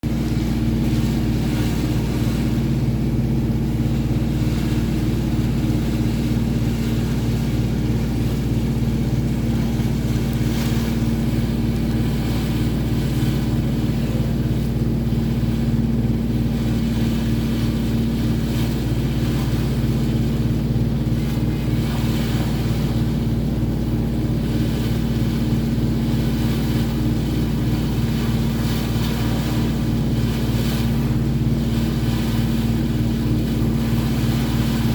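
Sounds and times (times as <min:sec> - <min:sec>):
boat engine droning: 0:00.0 - 0:34.9
wind and water wash: 0:00.0 - 0:34.9.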